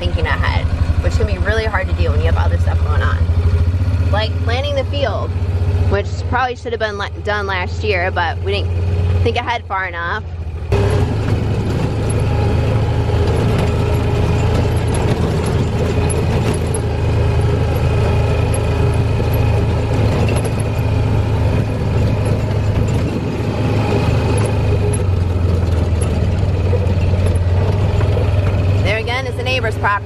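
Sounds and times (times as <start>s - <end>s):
utility vehicle engine droning: 0.0s - 30.0s.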